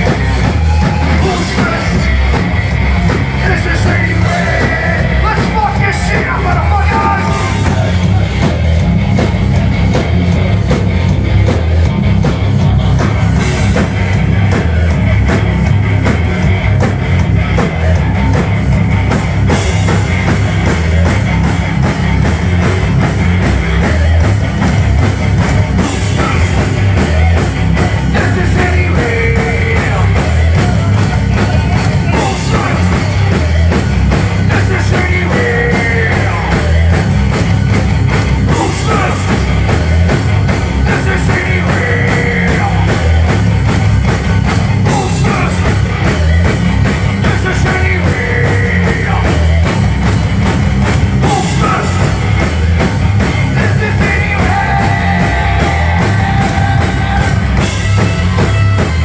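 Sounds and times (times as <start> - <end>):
metal band playing live: 0.0 - 59.0.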